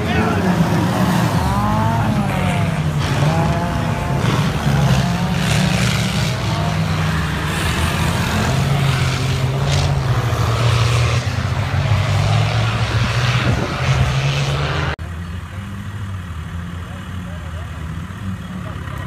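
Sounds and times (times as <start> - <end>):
rally car engines revving hard: 0.0 - 19.0.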